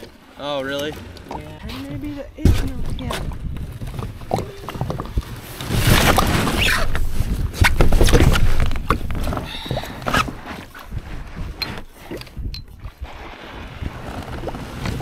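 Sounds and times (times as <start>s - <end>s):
knocks and rustles on kayak hull: 0.0s - 15.0s.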